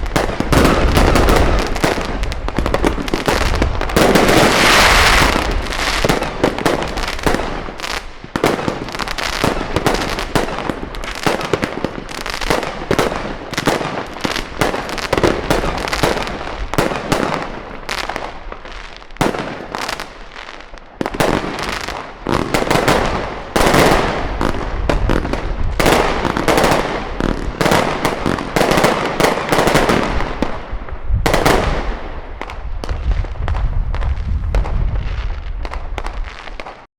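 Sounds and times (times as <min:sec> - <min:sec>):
fireworks bangs and crackles: 0:00.0 - 0:36.9.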